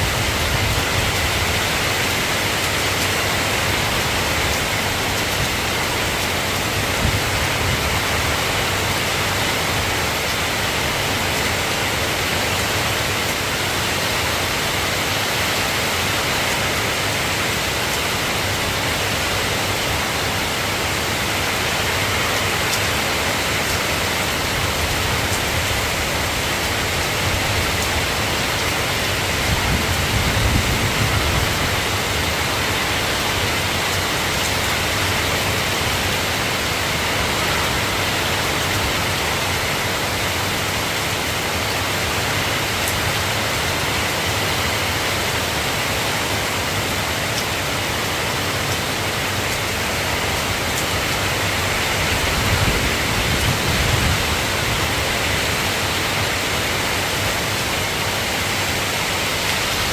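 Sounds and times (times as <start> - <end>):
soft rain falling: 0.0 - 59.9.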